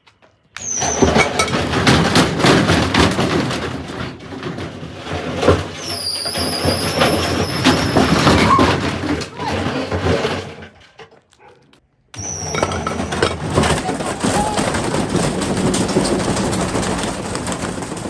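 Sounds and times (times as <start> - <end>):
bricks banging in a drum: 0.8 - 10.7, 12.2 - 18.0.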